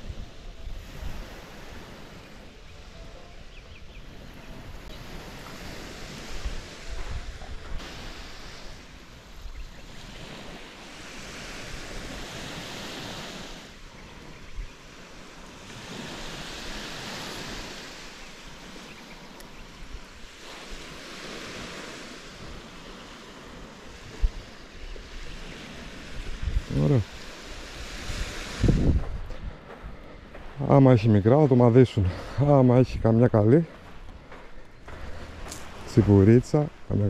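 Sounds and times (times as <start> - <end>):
waves washing up shore: 0.0 - 37.0
wind buffeting microphone: 3.8 - 37.0.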